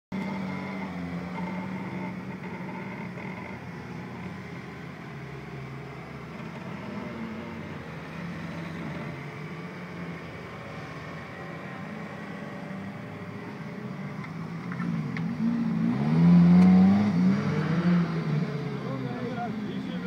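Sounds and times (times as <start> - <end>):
vehicle engine running at low speed: 0.1 - 20.0.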